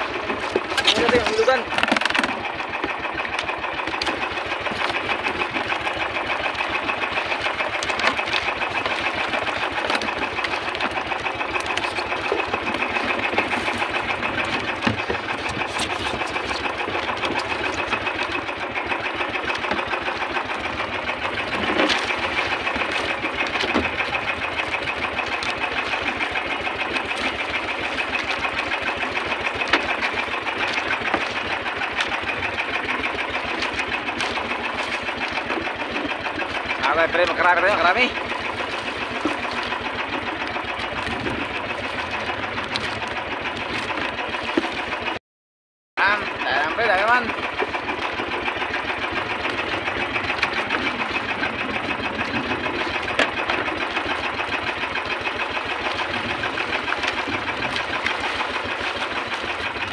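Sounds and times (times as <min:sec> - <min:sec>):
boat engine rattling: 0:00.0 - 0:45.2, 0:46.0 - 0:59.9.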